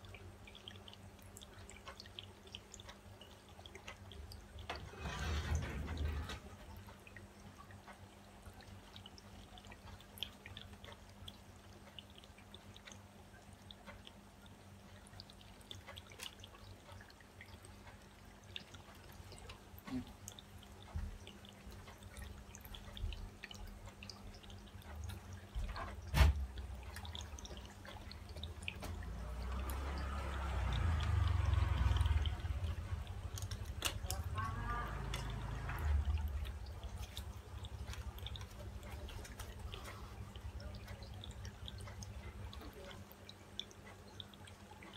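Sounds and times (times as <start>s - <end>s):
low steady hum: 0.0s - 44.9s
paint dripping: 0.0s - 44.9s.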